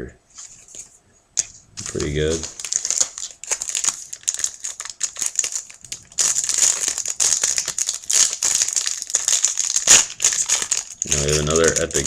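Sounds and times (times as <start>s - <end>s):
foil wrapper crinkling: 1.8s - 12.0s.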